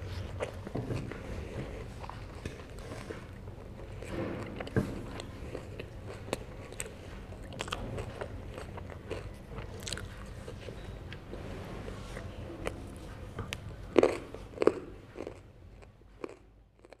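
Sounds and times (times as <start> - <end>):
fish being chewed: 0.0 - 11.3, 12.2 - 17.0.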